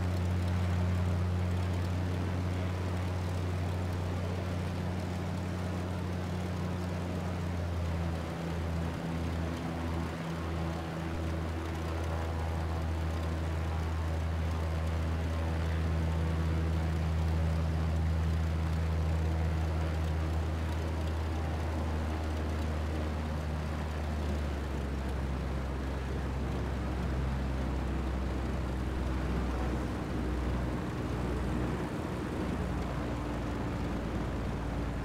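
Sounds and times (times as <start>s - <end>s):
propeller plane engine humming: 0.0s - 35.0s.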